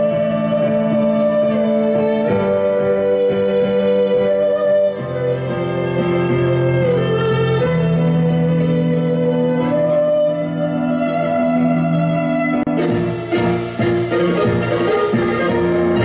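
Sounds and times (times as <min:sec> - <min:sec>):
bowed fiddle long notes: 0:00.0 - 0:16.0.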